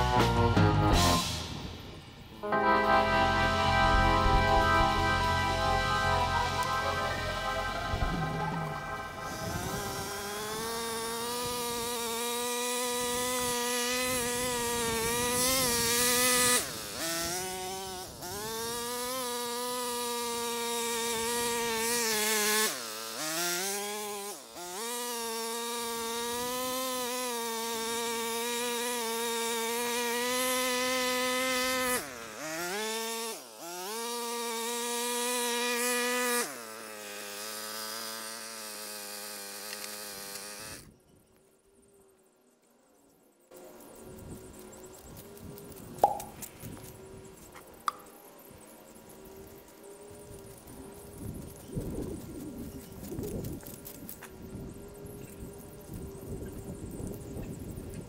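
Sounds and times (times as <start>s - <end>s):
mini tiller engine buzzing: 2.4s - 40.9s, 43.5s - 58.0s.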